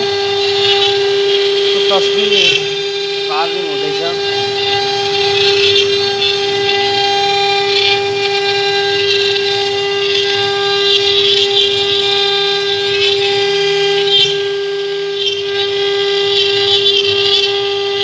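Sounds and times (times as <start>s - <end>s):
bits rasping through wood: 0.0s - 18.0s
router spindle high-pitched whine: 0.0s - 18.0s.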